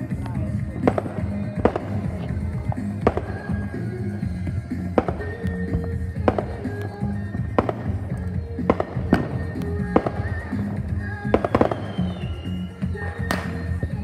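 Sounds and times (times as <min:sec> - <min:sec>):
background music with heavy bass: 0:00.0 - 0:14.0
fireworks banging: 0:00.0 - 0:14.0.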